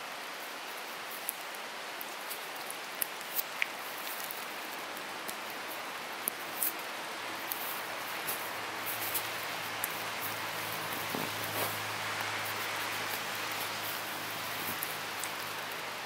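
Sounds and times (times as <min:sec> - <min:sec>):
steady rain in forest: 0:00.0 - 0:16.0.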